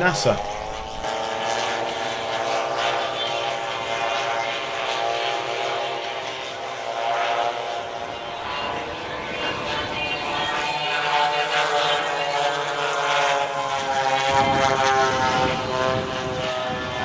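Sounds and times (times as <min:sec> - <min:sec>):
model airplane engines droning: 0:00.0 - 0:17.0.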